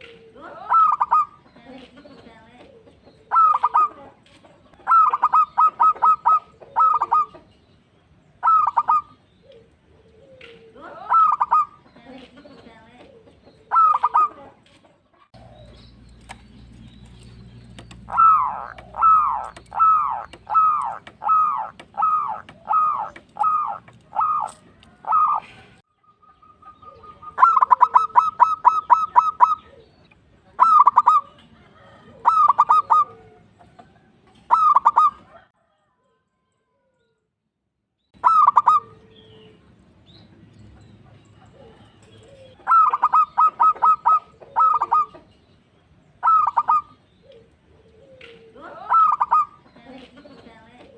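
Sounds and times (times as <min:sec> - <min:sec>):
dove cooing: 0:00.0 - 0:07.5, 0:08.3 - 0:14.6, 0:15.2 - 0:35.8, 0:38.2 - 0:39.7, 0:40.8 - 0:45.4, 0:46.1 - 0:50.9.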